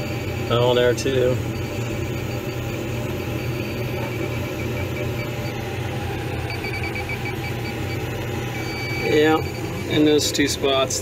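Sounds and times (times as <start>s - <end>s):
leak detector beeping: 0.0s - 11.0s
machinery hum: 0.0s - 11.0s.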